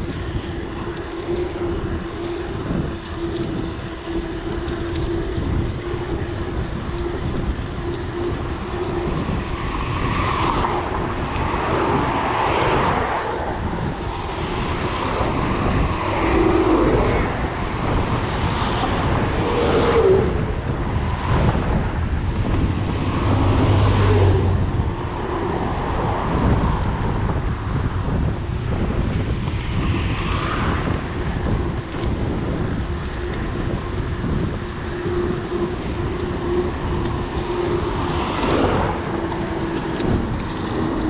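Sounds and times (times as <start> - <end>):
cars passing: 0.0 - 41.0
wind rush on microphone: 0.0 - 41.0.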